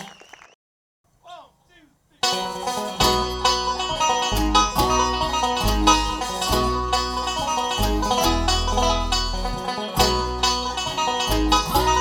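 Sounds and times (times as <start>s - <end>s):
banjo picking: 2.2s - 12.0s
bluegrass band playing: 2.2s - 12.0s.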